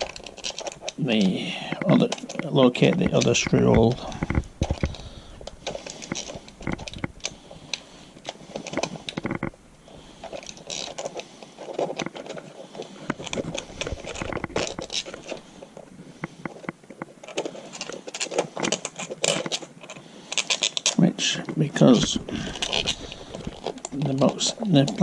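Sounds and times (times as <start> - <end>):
screwdriver scraping and clicking: 0.0 - 9.6, 10.2 - 21.0, 21.9 - 25.0.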